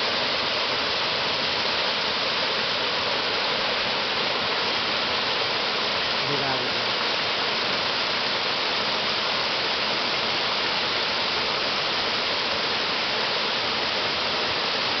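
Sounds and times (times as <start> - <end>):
small waterfall splashing into pool: 0.0 - 15.0.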